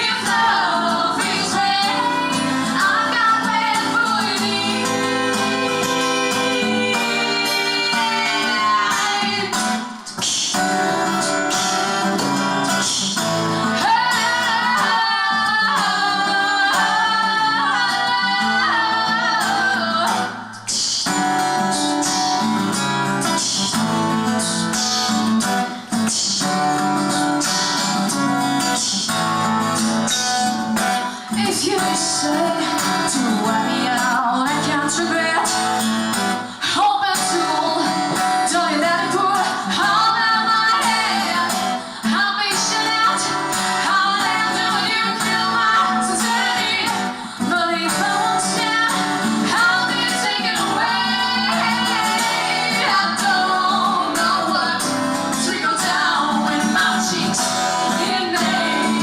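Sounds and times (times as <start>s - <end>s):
woman singing: 0.0s - 21.1s, 30.9s - 59.0s
strummed guitar: 0.0s - 59.0s.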